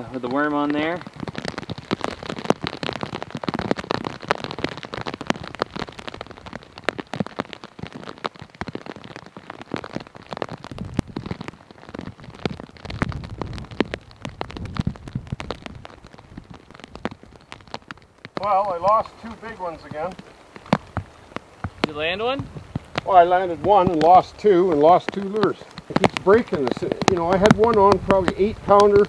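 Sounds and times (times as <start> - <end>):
raindrops tapping a rain cover: 0.0 - 29.0
steady rain: 0.0 - 29.0.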